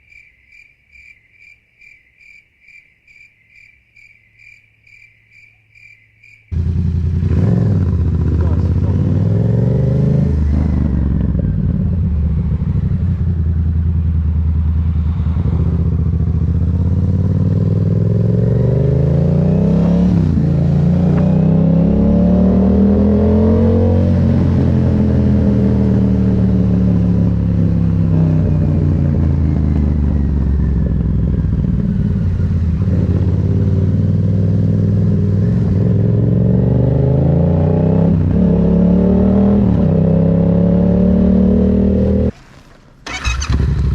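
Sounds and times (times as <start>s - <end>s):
motorcycle engine revving: 6.5s - 43.9s.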